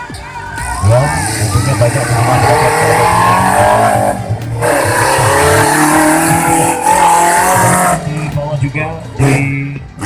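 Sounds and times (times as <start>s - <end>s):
off-road vehicle engine revving: 0.6s - 10.0s.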